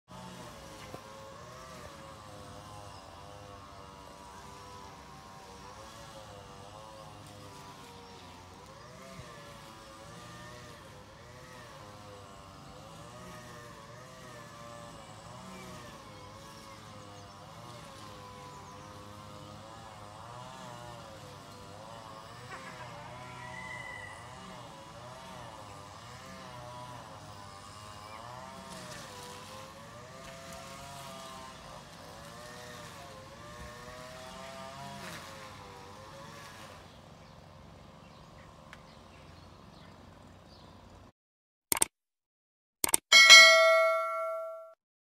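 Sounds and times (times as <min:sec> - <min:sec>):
distant lawn mower engine: 0:00.1 - 0:41.1.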